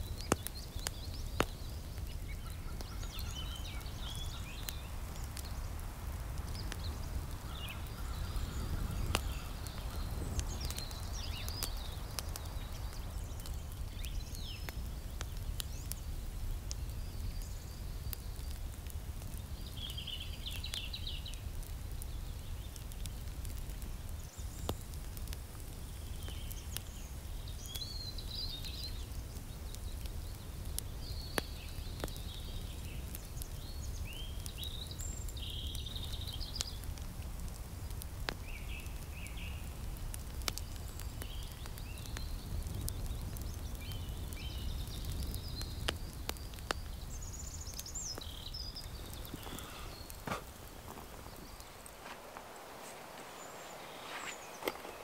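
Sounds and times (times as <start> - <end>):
campfire crackling and popping: 0.0 - 55.0
songbirds singing: 0.0 - 55.0.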